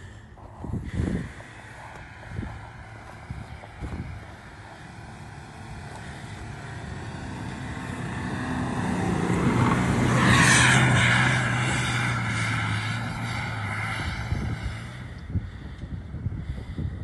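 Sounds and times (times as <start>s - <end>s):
off-road vehicle engine approaching: 0.0s - 17.0s.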